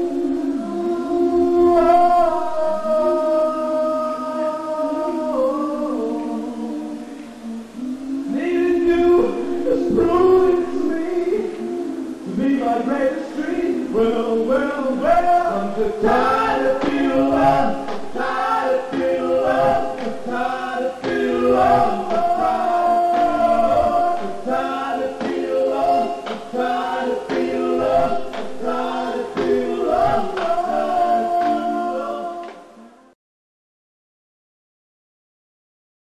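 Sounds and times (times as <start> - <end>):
male vocal group singing: 0.0 - 33.2.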